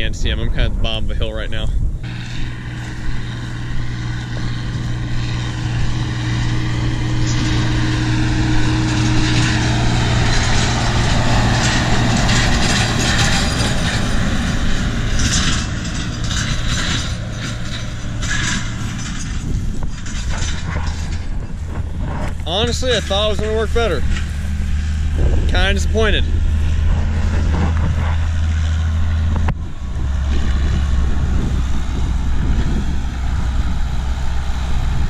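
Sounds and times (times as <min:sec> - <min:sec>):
tractor diesel engine running: 0:00.0 - 0:35.0
wind buffeting microphone: 0:00.0 - 0:35.0.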